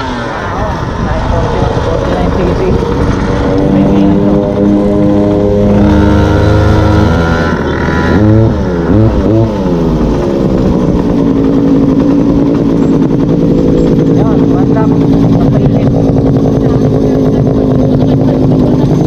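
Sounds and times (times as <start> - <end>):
small two-stroke engine running: 0.0 - 19.0.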